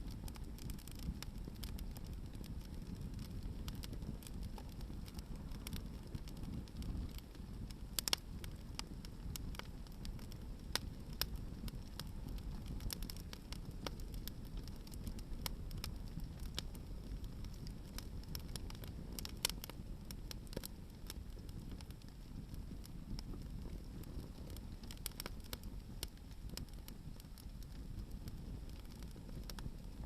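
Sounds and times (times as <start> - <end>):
firewood crackling and popping: 0.0 - 30.0
low fire rumble: 0.0 - 30.0.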